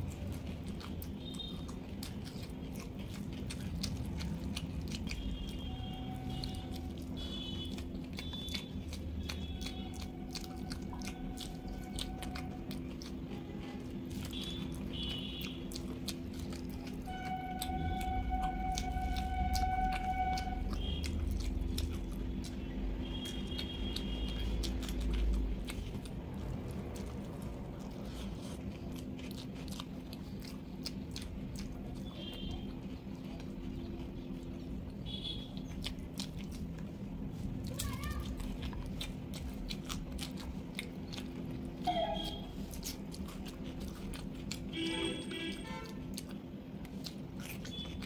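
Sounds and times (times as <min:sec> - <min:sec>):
wet chewing and mouth clicks: 0:00.0 - 0:48.0.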